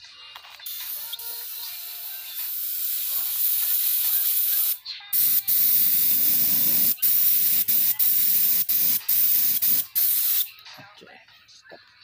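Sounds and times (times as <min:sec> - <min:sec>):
spray gun hissing: 0:00.7 - 0:10.5.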